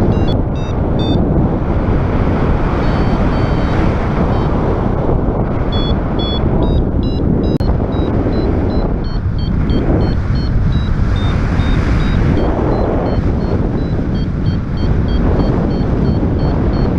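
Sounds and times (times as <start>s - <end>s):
faint high beeps: 0.0s - 1.2s, 2.8s - 4.5s, 5.7s - 16.9s
wind buffeting microphone: 0.0s - 16.9s.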